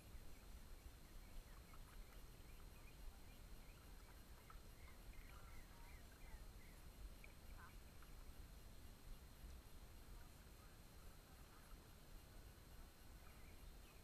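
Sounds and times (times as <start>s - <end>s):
faint bird calls: 0.0s - 14.0s.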